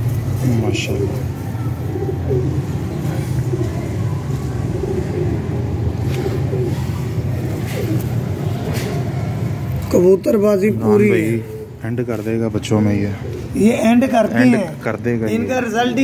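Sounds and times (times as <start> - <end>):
pigeons cooing: 0.0 - 9.9, 10.8 - 15.4.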